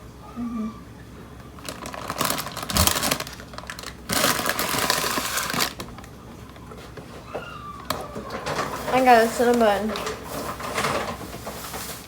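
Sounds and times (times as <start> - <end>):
packaging crinkling and rustling: 1.6 - 12.0.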